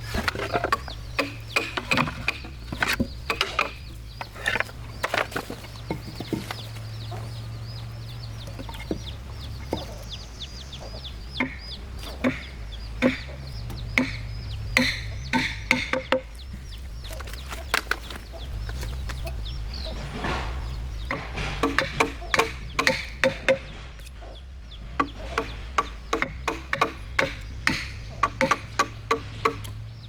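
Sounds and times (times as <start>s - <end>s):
chickens clucking: 0.0s - 30.0s
chicks peeping: 0.0s - 30.0s
steady low hum: 0.0s - 30.0s
sharp knocks: 0.1s - 6.7s, 11.4s - 30.0s.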